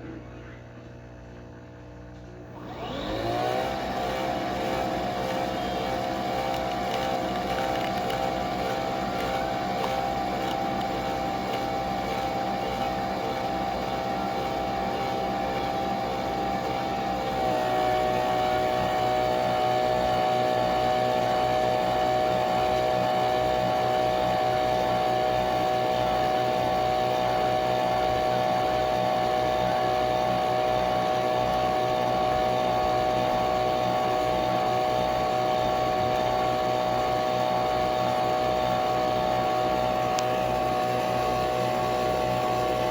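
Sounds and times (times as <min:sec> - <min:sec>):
coffee machine motor whine: 0:00.0 - 0:42.9.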